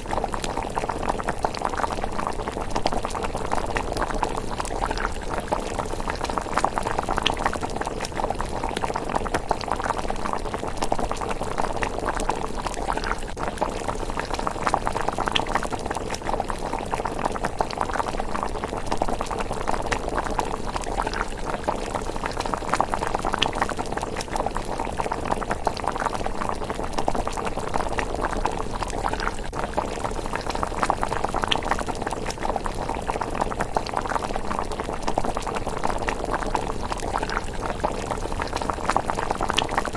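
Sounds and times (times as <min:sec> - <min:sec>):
porridge bubbling in a pot: 0:00.0 - 0:39.9.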